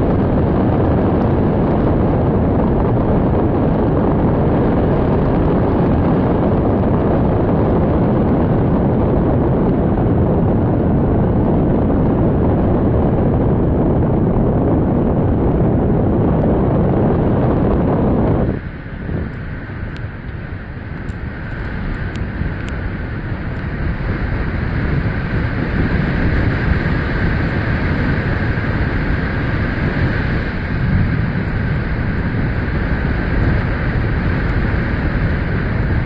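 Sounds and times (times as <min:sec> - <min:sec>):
strong wind on microphone: 0:00.0 - 0:36.0.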